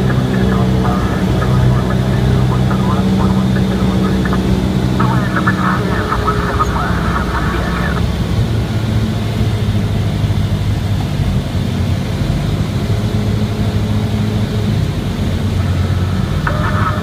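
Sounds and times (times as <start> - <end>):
aircraft engine drone from cabin: 0.0 - 17.0.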